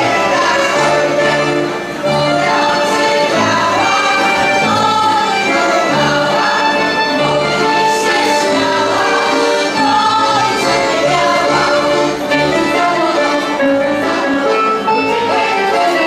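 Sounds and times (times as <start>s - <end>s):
women singing folk song: 0.0s - 14.6s
accordion: 0.0s - 16.0s
fiddle: 0.0s - 16.0s.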